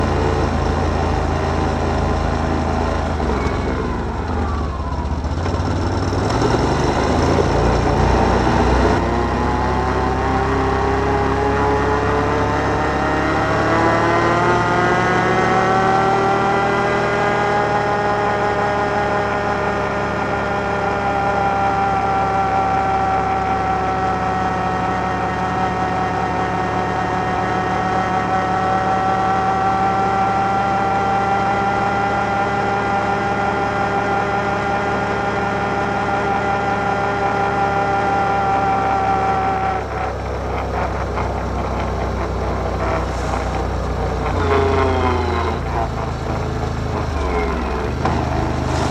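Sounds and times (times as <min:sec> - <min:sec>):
atv engine revving: 0:00.0 - 0:48.9.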